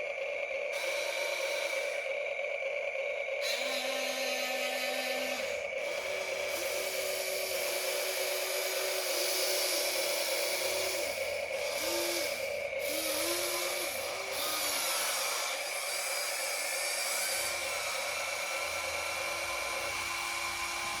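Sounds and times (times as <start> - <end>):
small electric motors whining: 0.0 - 2.4, 3.4 - 21.0.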